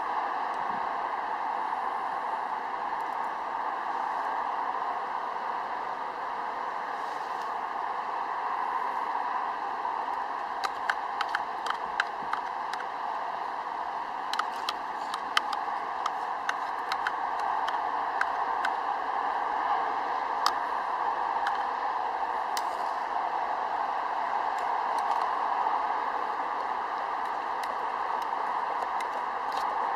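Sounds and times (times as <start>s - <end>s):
heavy rain hissing: 0.1s - 29.9s.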